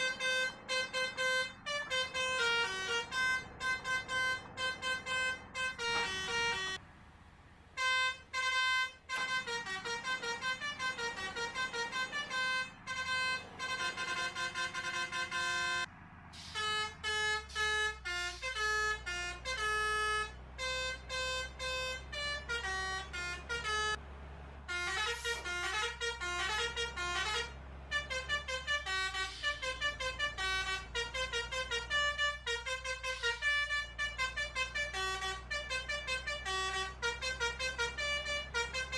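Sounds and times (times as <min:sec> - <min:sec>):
multi-tone horn toots: 0:00.0 - 0:06.8, 0:07.7 - 0:24.0, 0:24.6 - 0:38.9.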